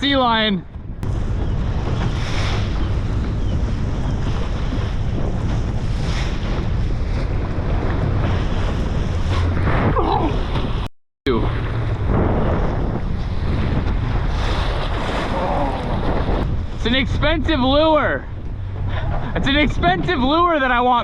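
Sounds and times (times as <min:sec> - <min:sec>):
boat rumble: 0:00.0 - 0:21.0
wind buffeting microphone: 0:00.0 - 0:21.0.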